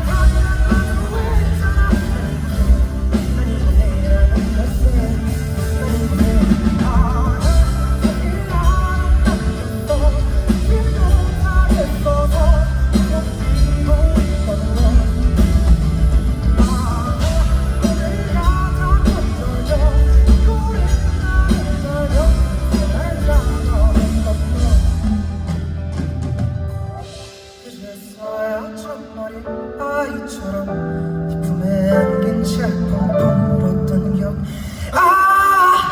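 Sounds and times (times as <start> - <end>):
man singing: 0.0 - 35.9
rock band playing live: 0.0 - 35.9.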